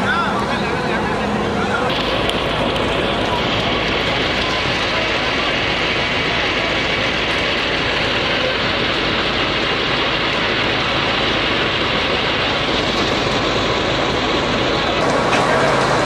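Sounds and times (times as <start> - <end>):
fire truck running: 0.0 - 16.0.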